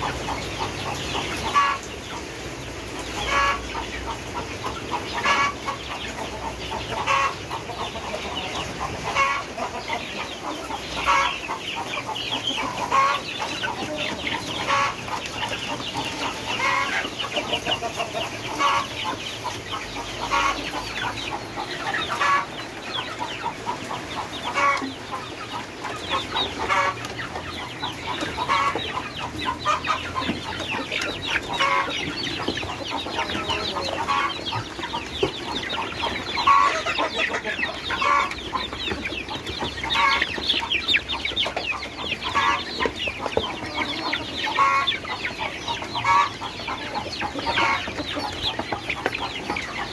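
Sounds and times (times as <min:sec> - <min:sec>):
chickens chirping and clucking: 0:00.0 - 0:49.9.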